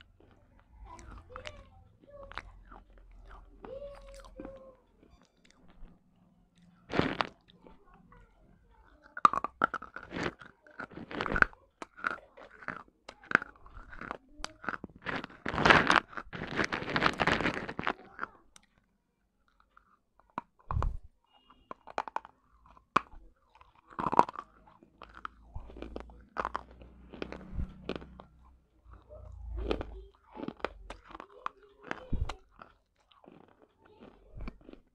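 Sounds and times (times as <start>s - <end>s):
clay pieces crunching in mouth: 2.3s - 7.9s, 8.8s - 18.8s, 19.4s - 34.9s.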